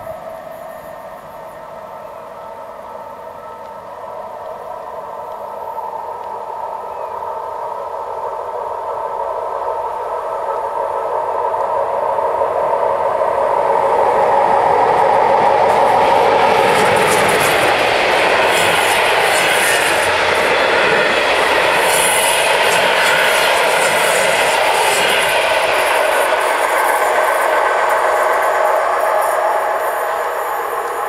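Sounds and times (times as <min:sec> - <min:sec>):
train passing with rolling rumble: 0:00.0 - 0:31.0.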